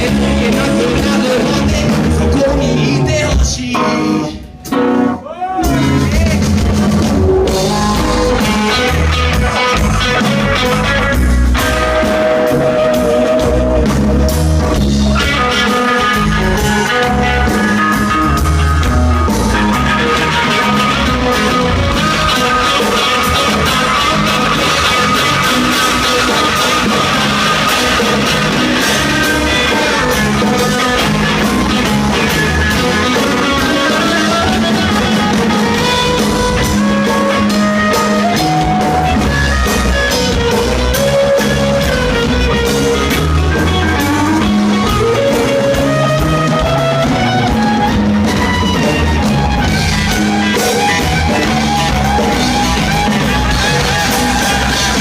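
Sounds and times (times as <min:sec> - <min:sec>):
bass guitar: 0:00.0 - 0:55.0
drum kit: 0:00.0 - 0:55.0
lead guitar melody: 0:00.0 - 0:55.0.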